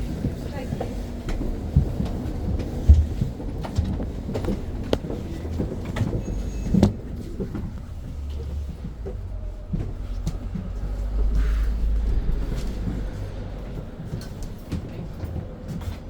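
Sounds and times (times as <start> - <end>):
body knocks and rattles: 0.0 - 16.0
bus road rumble: 0.0 - 16.0.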